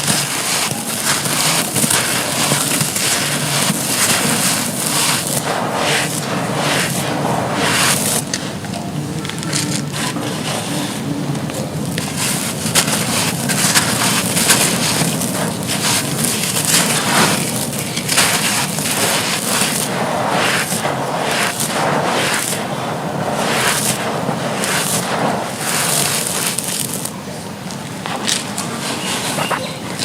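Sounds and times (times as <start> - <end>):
crumbly blocks crushed crackling: 0.0 - 30.0.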